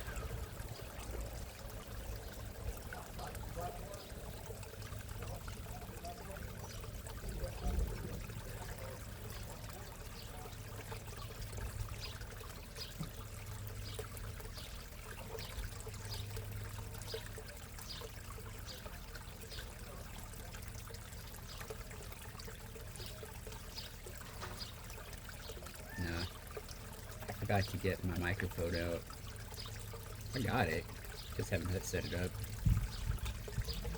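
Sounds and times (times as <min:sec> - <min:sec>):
pond water trickling: 0:00.0 - 0:33.9.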